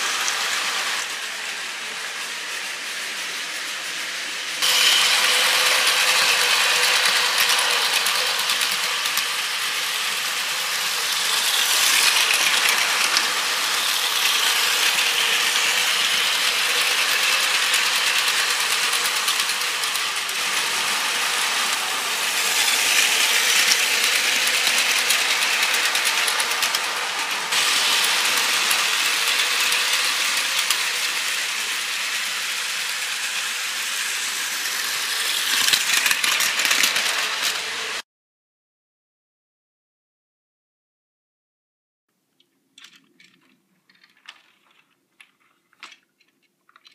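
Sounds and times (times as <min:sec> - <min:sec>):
toy train motor whirring: 0:00.0 - 0:38.0, 0:42.8 - 0:46.9
toy train wheel clatter: 0:00.0 - 0:38.0, 0:42.3 - 0:46.9.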